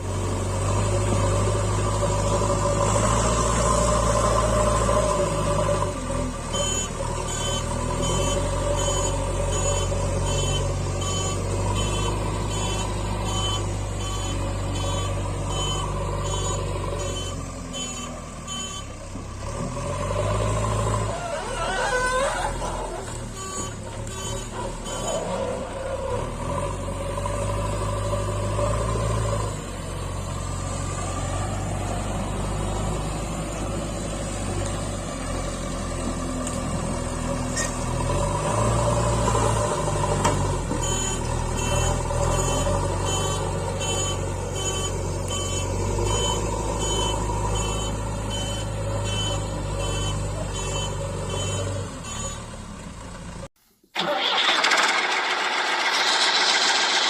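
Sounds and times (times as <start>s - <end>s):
diesel engines running: 0.0s - 57.0s
harsh noisy engine: 0.0s - 57.0s.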